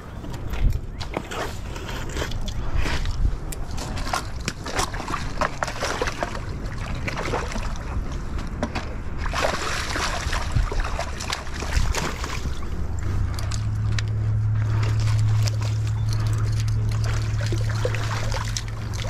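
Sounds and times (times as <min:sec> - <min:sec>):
water lapping over rocks: 0:00.0 - 0:19.0
wind buffeting microphone: 0:00.0 - 0:19.0.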